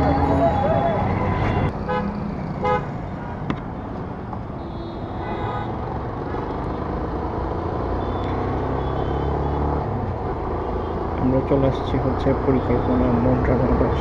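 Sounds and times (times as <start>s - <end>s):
engines running low: 0.0s - 4.6s, 5.7s - 14.0s.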